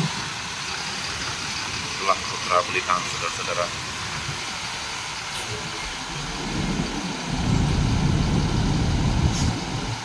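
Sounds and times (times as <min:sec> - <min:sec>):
diesel bus engines running: 0:00.0 - 0:10.0.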